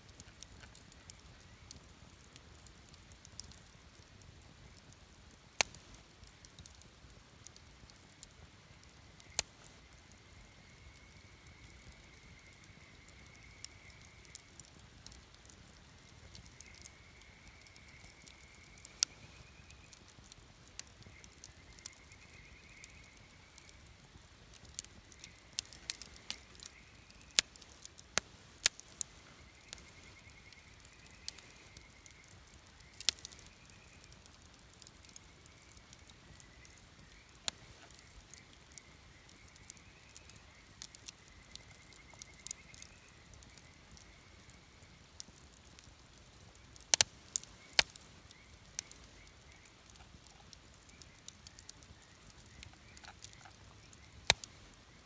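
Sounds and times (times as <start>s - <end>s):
campfire hissing: 0.0s - 55.0s
fire crackles and pops: 0.0s - 55.0s.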